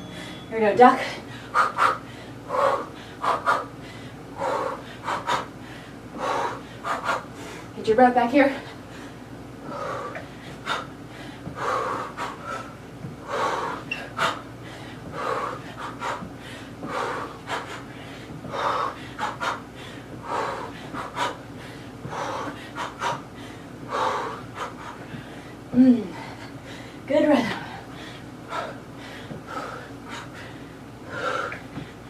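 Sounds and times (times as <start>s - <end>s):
person breathing hard: 1.0s - 7.8s, 8.6s - 32.0s.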